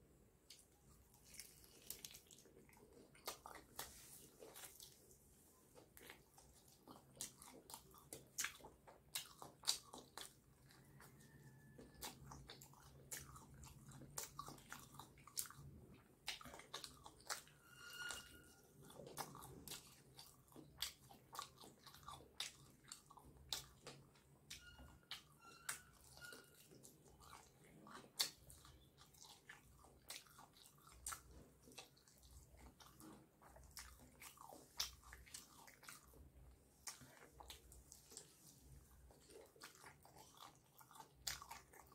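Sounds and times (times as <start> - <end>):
crunchy chewing: 0.5 - 41.9.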